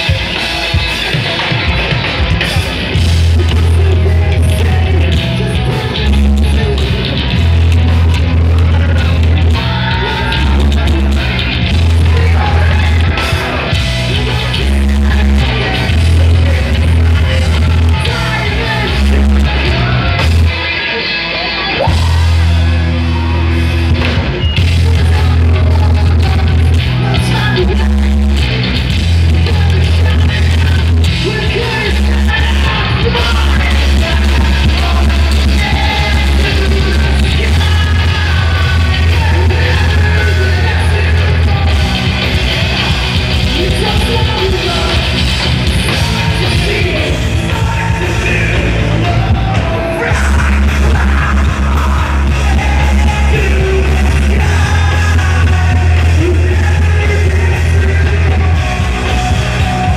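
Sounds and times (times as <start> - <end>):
live heavy rock band: 0.0 - 59.9
singer's vocals: 0.0 - 59.9.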